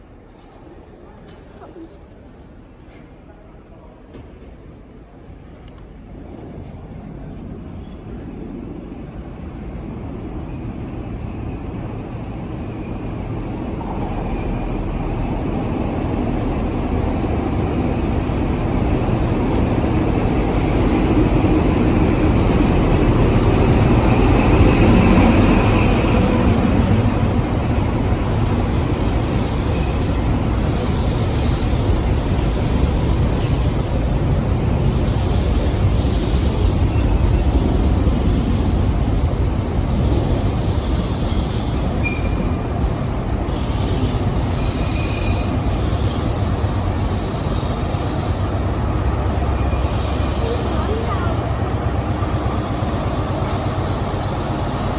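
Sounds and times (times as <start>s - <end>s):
diesel train engine and wheel rumble: 0.0s - 54.9s.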